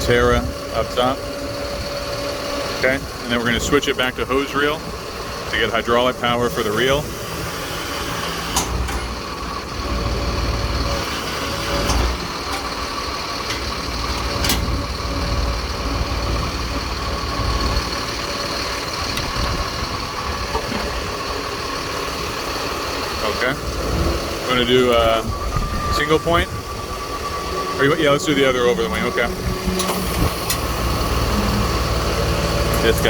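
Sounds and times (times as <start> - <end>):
truck engine low rumble: 0.0 - 33.0.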